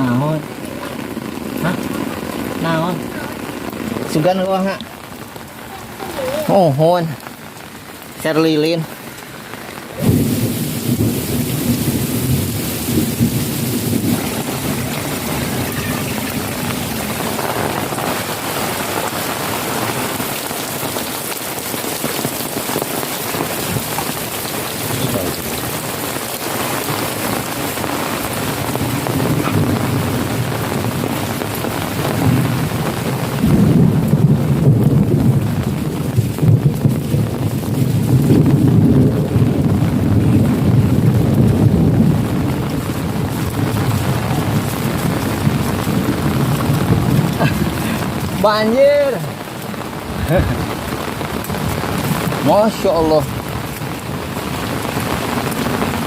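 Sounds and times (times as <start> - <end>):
heavy rain pouring: 0.0 - 56.0
low thunder rumbling: 9.9 - 48.5, 49.2 - 56.0.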